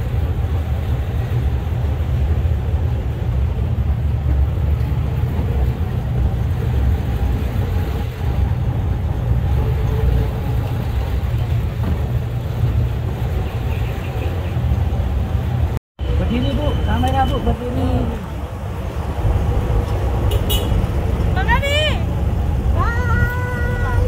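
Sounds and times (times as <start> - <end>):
engine and road rumble: 0.0 - 24.0.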